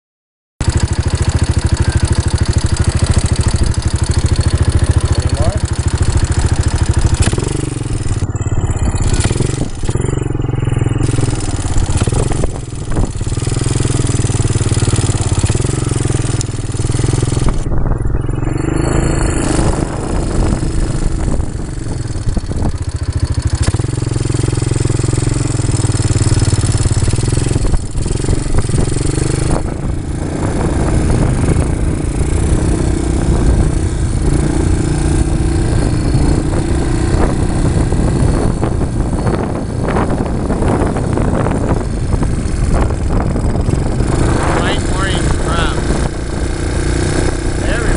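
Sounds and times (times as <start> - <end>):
quad bike engine running: 0.6 - 47.9.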